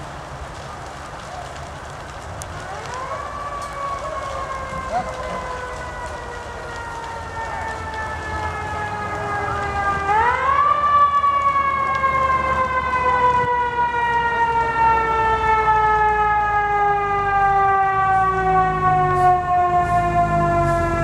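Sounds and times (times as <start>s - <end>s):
mechanical siren wailing: 2.6s - 21.0s.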